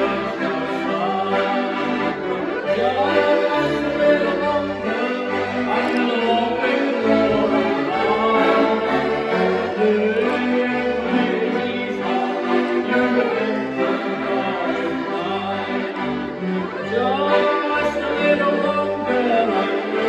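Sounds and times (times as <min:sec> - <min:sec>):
accordions playing gospel song: 0:00.0 - 0:20.0.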